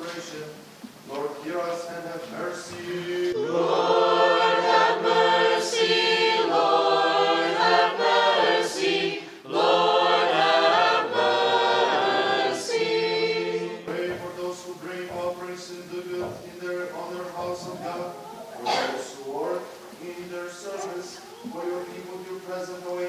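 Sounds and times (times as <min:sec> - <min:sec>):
choir singing a cappella: 0:02.3 - 0:22.8.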